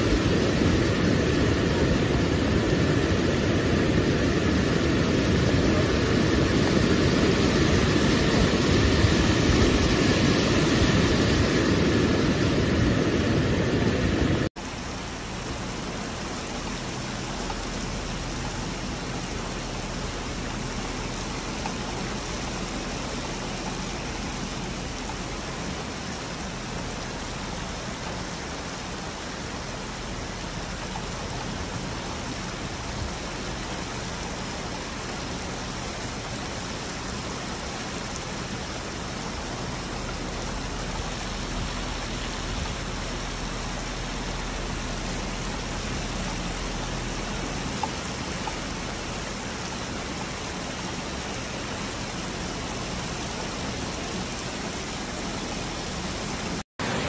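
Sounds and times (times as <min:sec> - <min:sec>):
flood water rushing: 0:00.0 - 0:57.0
heavy rain hissing: 0:00.0 - 0:57.0.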